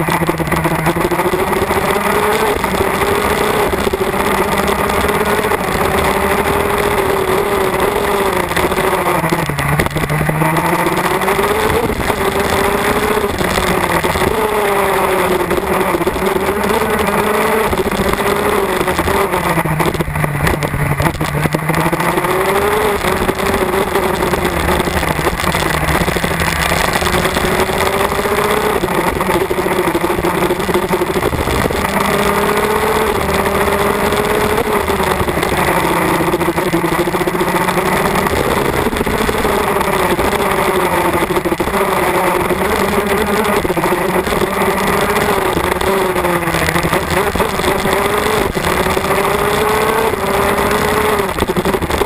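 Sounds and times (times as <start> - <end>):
kart engine revving: 0.0 - 52.0.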